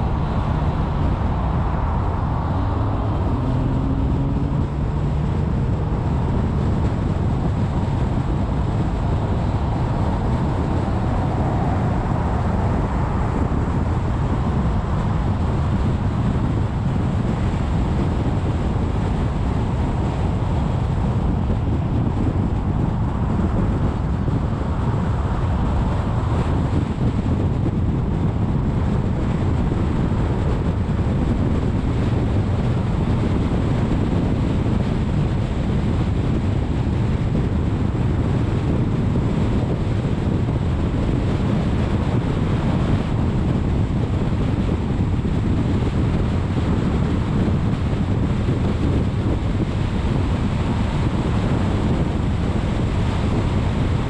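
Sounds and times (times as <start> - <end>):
car tyre noise at speed: 0.0 - 54.0
wind on microphone: 0.0 - 54.0.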